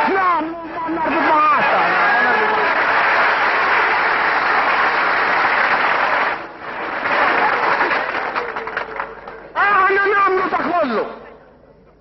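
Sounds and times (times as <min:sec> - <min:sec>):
crowd applauding: 0:01.0 - 0:10.7.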